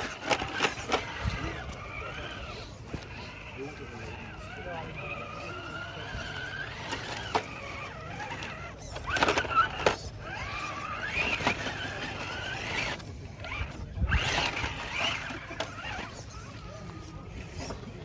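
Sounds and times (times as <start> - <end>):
electric motor and gearbox whining: 0.0 - 18.0.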